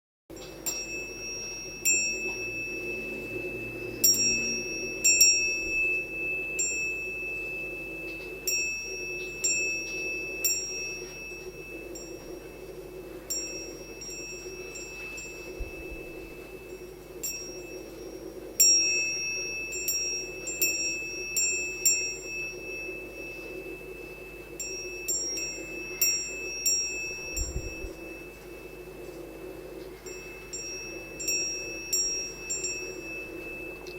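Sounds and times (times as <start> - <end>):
glass door chime ringing: 0.3 - 33.9
steady low hum: 0.3 - 33.9.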